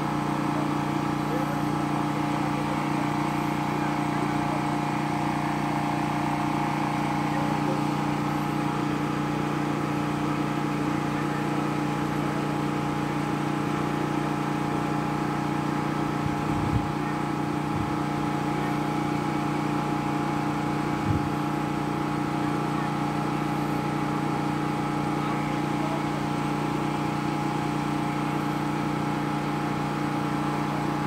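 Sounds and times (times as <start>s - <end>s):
water pump motor humming: 0.0s - 31.0s.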